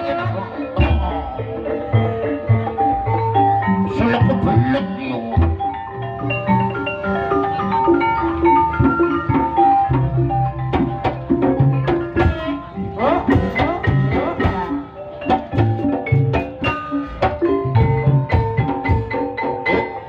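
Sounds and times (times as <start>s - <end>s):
metallophones ringing melody: 0.0s - 20.0s
drum strokes: 0.8s - 20.0s.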